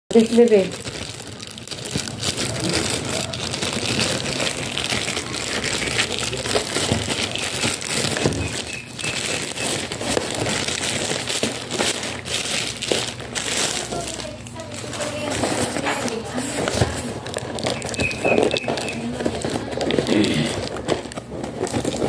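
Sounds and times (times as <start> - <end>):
plastic bag crinkling: 0.1 - 22.0.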